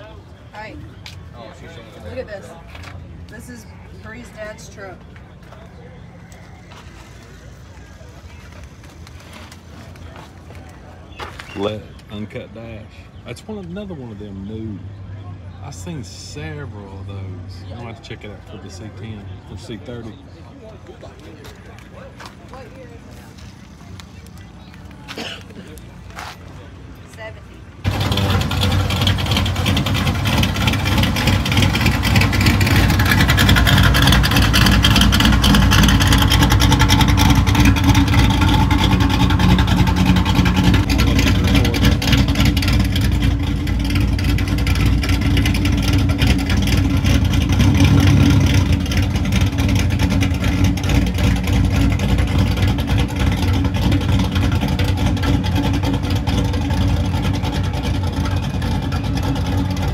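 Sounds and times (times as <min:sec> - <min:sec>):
truck engine exhaust rumble: 0:02.5 - 0:59.9.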